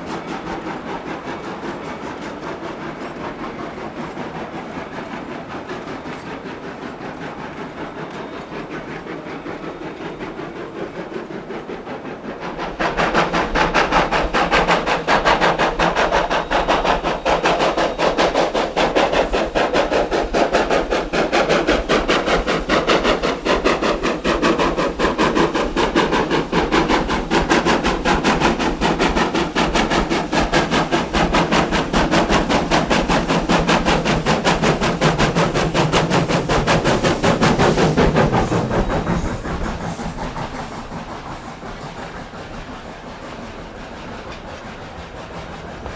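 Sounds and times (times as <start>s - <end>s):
steam locomotive exhaust beats: 0.0s - 45.9s.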